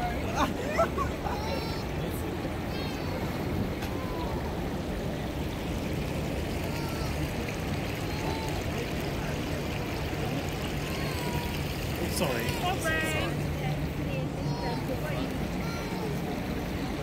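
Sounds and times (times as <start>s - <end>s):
distant voices: 0.0s - 17.0s
water feature rushing: 0.0s - 17.0s.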